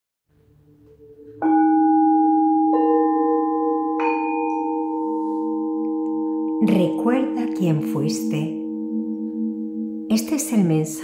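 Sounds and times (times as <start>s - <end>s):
struck bell-like tones: 1.4s - 11.0s.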